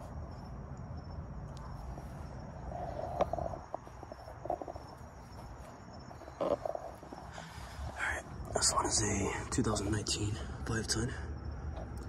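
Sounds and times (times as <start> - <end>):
crickets chirping: 0.0 - 12.0
low background rumble: 0.0 - 12.0.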